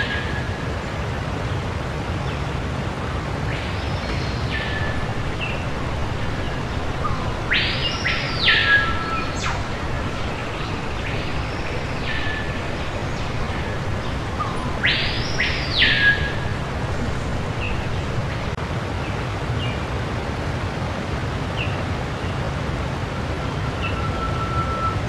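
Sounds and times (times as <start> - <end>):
steady hiss and low rumble: 0.0 - 25.0.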